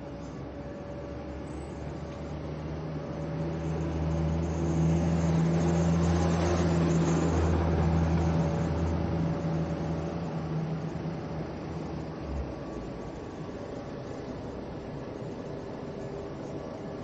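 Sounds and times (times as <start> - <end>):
minibus engine passing: 0.0 - 17.0.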